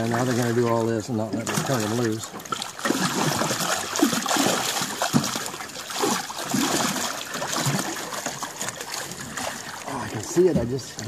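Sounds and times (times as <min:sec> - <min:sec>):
river water splashing: 0:00.0 - 0:11.0.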